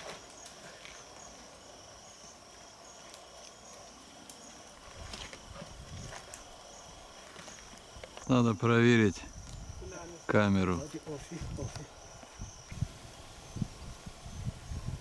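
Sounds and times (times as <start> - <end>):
insect chirring: 0.0 - 15.0.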